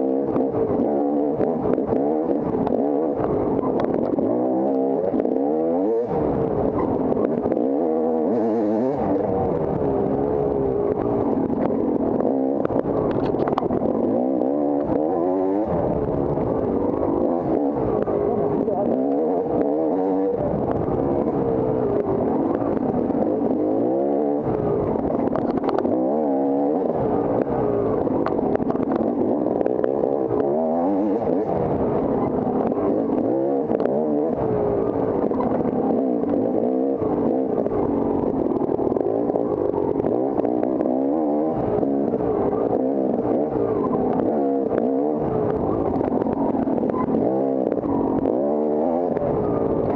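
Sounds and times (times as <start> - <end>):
off-road motorcycle engine revving: 0.0 - 49.9.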